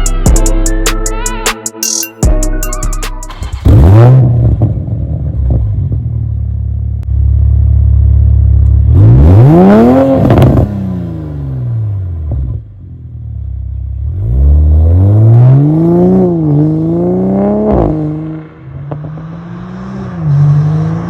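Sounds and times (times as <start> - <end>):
car engine revving: 3.3 - 21.0.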